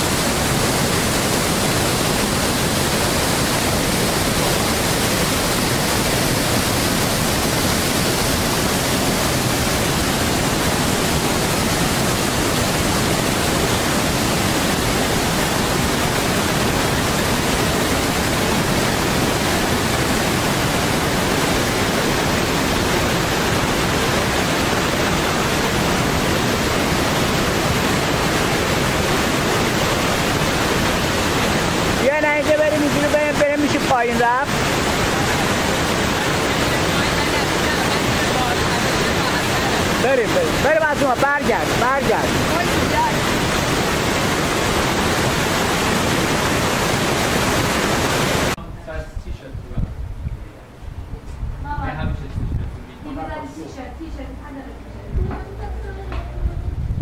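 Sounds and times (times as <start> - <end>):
loud rushing noise: 0.0 - 48.6.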